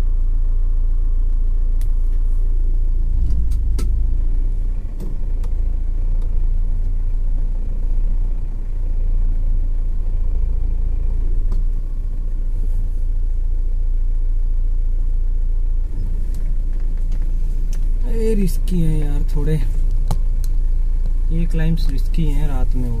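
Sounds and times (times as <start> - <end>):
engine low rumble: 0.0 - 23.0.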